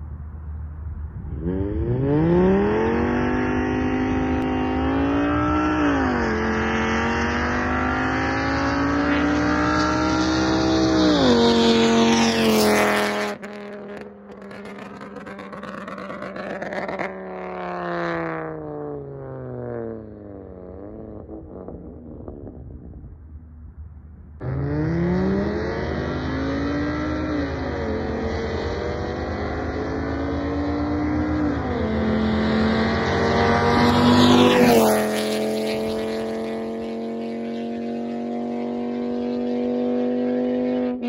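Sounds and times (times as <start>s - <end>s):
car engine accelerating hard: 0.0s - 23.3s, 24.4s - 41.0s.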